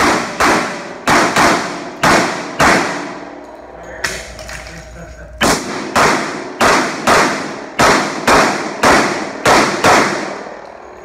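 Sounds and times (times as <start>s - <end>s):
pistol shots echoing indoors: 0.0s - 4.7s, 5.4s - 11.0s.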